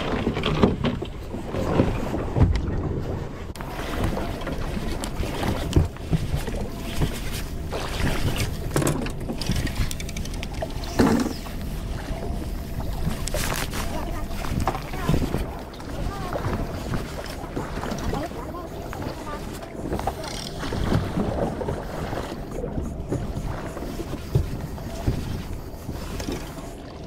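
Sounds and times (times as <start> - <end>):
boat engine rumble: 0.0 - 27.0
wind buffeting microphone: 0.0 - 27.0.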